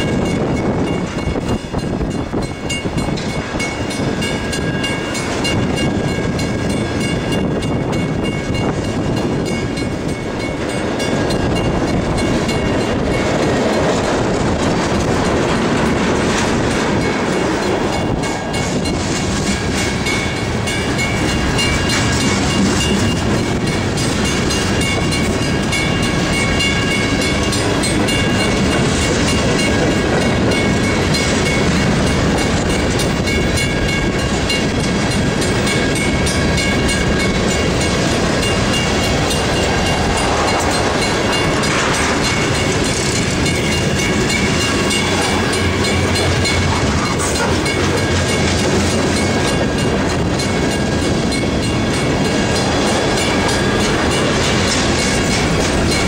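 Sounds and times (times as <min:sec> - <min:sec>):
freight train rolling past: 0:00.0 - 0:56.0
steel wheels clicking over rail joints: 0:00.0 - 0:56.0
wind buffeting microphone: 0:00.0 - 0:56.0.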